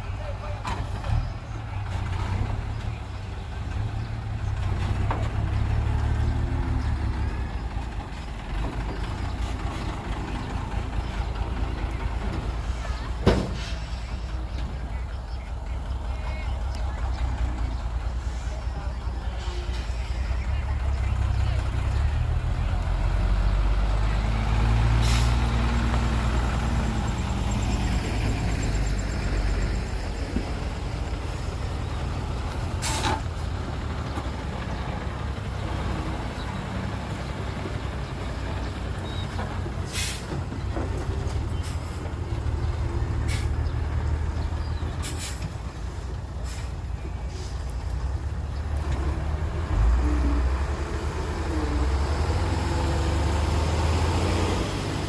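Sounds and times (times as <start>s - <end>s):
heavy machinery low rumble: 0.0s - 55.0s.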